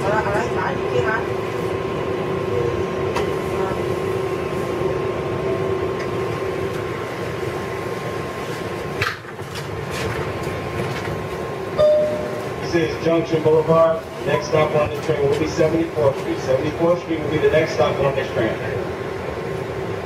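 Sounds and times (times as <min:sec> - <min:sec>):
subway car hum and whine: 0:00.0 - 0:20.0.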